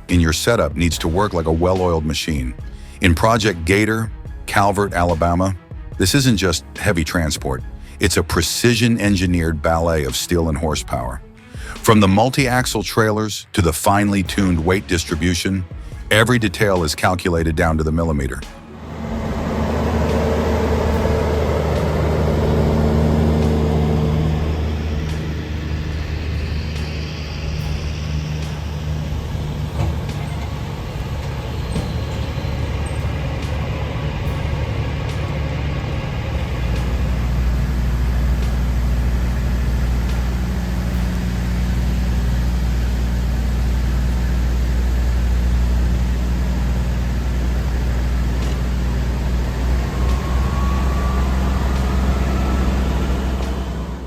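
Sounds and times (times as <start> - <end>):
heavy truck engine running: 0.0 - 10.2, 10.9 - 12.8, 14.2 - 54.0.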